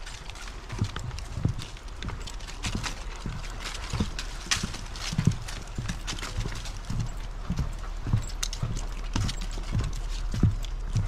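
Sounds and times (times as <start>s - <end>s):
light clicks and scuffs: 0.0s - 11.0s
walking footsteps: 0.0s - 11.0s.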